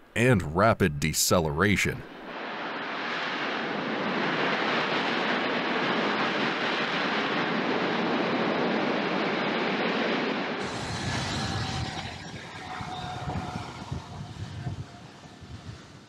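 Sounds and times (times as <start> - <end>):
jet engines in reverse thrust: 2.3 - 16.0.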